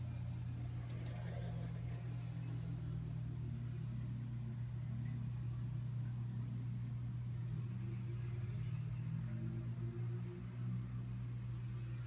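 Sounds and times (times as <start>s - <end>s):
aquarium pump humming: 0.0s - 12.0s.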